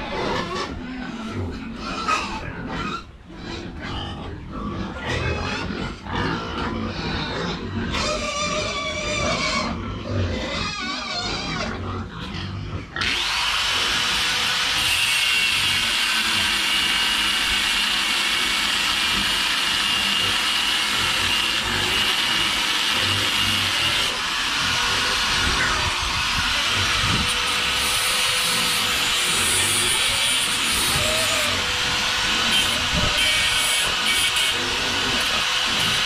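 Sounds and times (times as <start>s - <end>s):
machine noise with high whine: 0.0s - 36.0s
pigs squealing and grunting: 0.0s - 36.0s.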